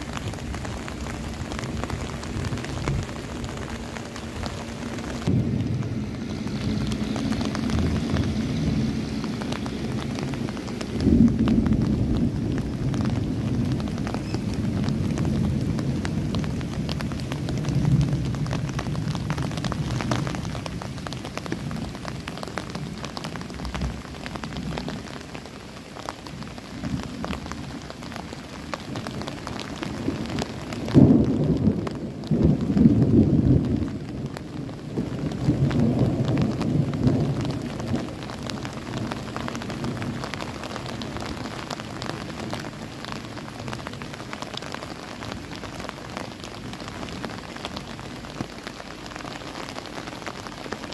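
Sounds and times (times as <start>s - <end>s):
rain patter: 0.0s - 50.9s
thunder rumbling: 0.0s - 50.9s.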